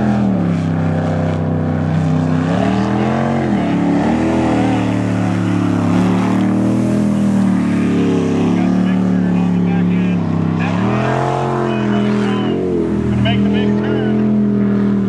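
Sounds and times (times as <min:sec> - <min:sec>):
boat engine running hard: 0:00.0 - 0:15.0.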